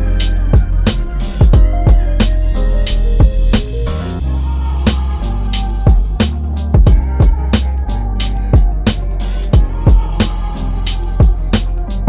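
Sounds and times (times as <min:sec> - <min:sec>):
hip-hop music with drum beat: 0:00.0 - 0:12.0.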